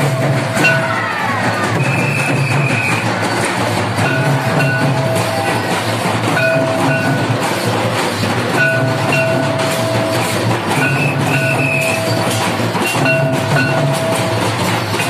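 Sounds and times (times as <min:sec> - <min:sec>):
clattering percussion: 0:00.0 - 0:15.0
drumming: 0:00.0 - 0:15.0.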